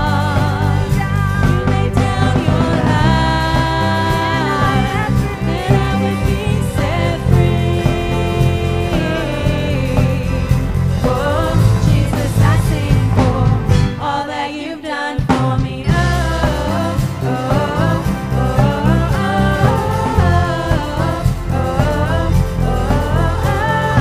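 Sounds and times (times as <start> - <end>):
electric bass: 0.0 - 14.1, 15.8 - 24.0
keyboard: 0.0 - 24.0
women singing: 0.0 - 24.0.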